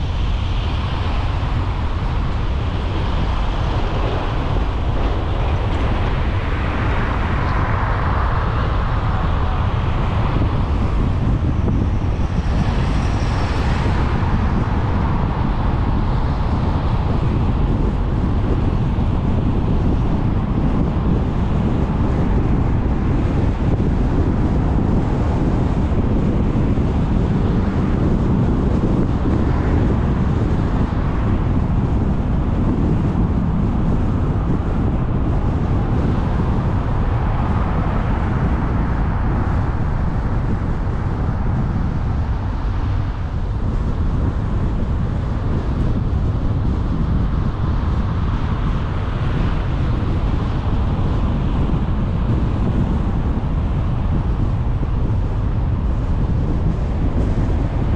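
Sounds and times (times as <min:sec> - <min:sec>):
car road and tyre noise: 0:00.0 - 0:57.9
wind on microphone: 0:00.0 - 0:57.9.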